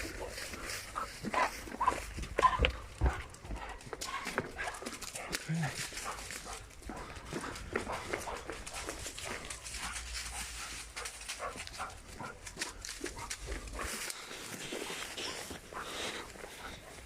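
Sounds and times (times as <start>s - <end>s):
dog panting and sniffing: 0.0s - 17.0s.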